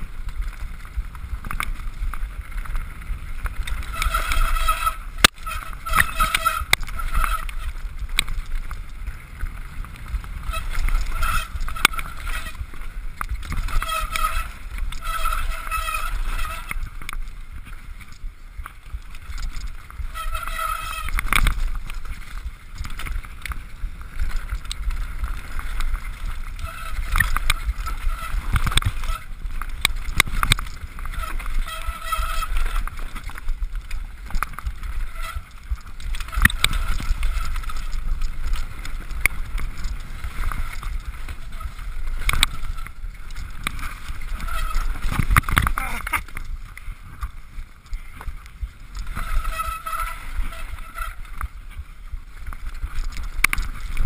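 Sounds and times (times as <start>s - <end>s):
bike knocks and rattles: 0.0s - 51.5s
tyres on dirt: 0.0s - 54.0s
wind rumble on microphone: 0.0s - 54.0s.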